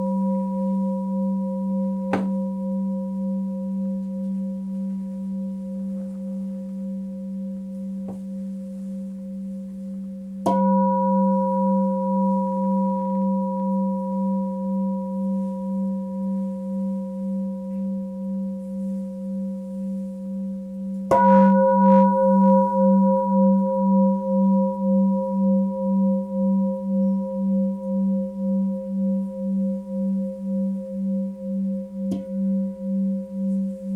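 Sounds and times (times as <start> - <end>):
singing bowl strike: 0.0 - 8.4, 10.4 - 18.6, 20.7 - 33.9
singing bowl ringing: 0.0 - 33.9.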